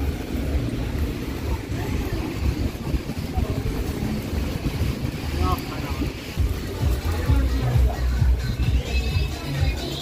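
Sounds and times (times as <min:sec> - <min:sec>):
faint voices: 0:00.0 - 0:10.0
traffic rumble: 0:00.0 - 0:10.0
wet road hiss: 0:00.0 - 0:10.0.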